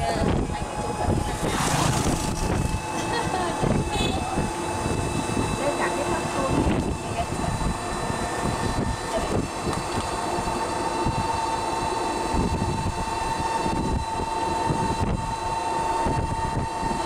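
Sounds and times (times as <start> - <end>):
high vehicle whine: 0.0 - 17.0
road and wind rumble: 0.0 - 17.0.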